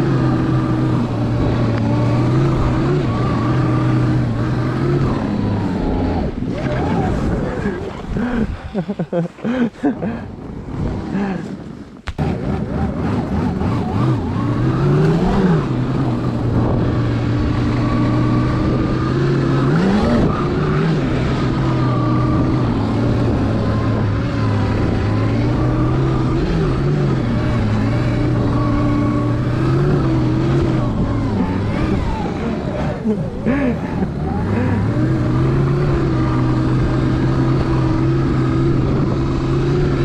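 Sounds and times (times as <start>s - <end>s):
snow track rumble: 0.0s - 40.0s.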